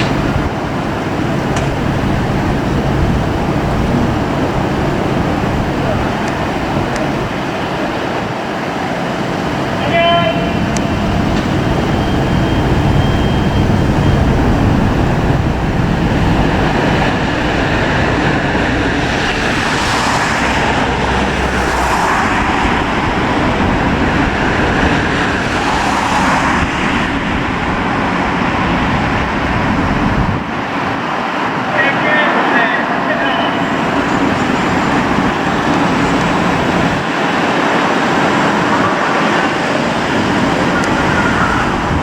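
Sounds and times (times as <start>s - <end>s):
fire engines driving past: 0.0s - 42.0s.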